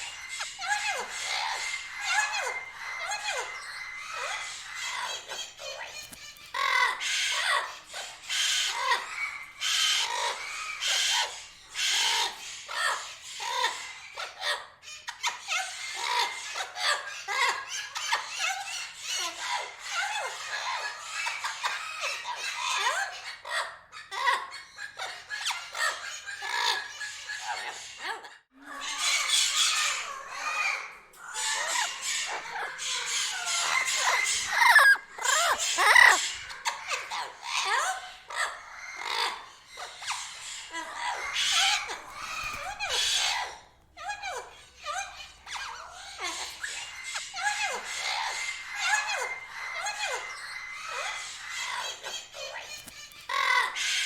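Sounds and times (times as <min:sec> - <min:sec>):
parrots squawking and chattering: 0:00.0 - 0:54.0.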